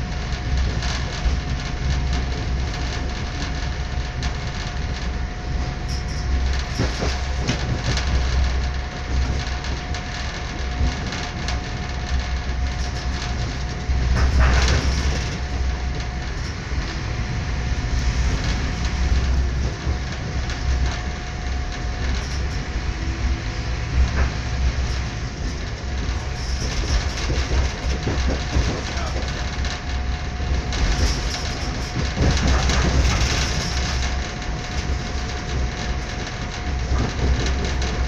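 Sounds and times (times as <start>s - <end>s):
train rolling rumble: 0.0s - 38.0s.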